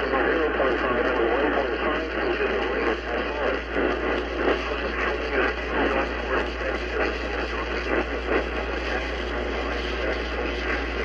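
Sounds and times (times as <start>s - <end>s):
muffled voice over radio: 0.0s - 11.0s
radio static hiss: 0.0s - 11.0s
low hum: 0.2s - 11.0s.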